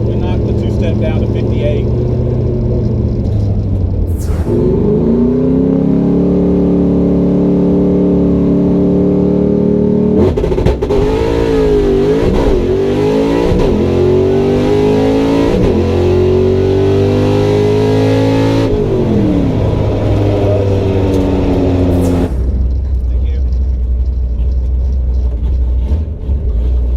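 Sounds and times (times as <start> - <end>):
drag car engine revving: 0.0 - 26.9.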